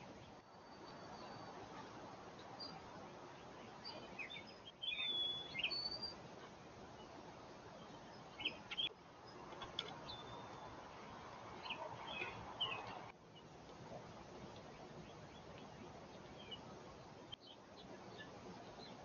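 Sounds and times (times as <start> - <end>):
faint steady hiss: 0.0 - 19.0
songbirds chirping: 0.0 - 19.0.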